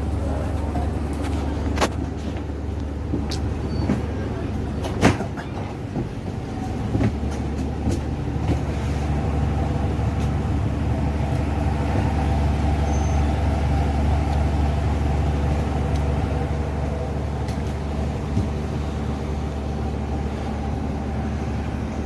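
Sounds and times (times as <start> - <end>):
low engine drone: 0.0 - 22.0.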